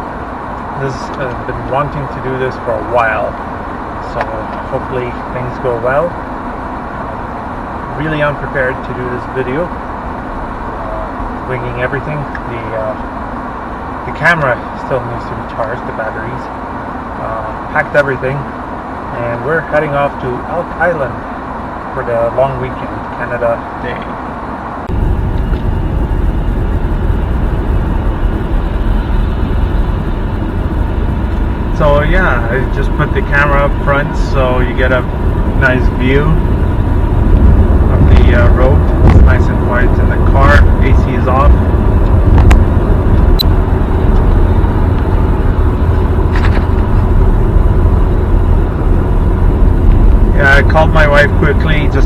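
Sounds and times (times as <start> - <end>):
road and tyre rumble in car: 0.0 - 52.0.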